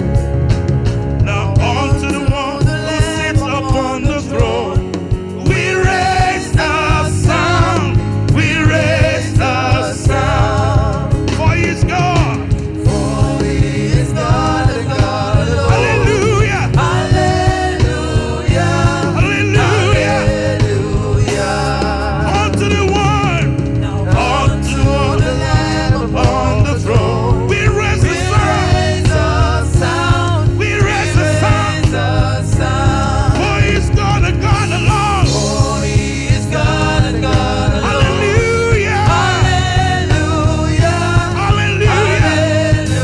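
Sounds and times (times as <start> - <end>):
band with bass and beat: 0.0 - 43.0
voices singing gospel song: 0.0 - 43.0.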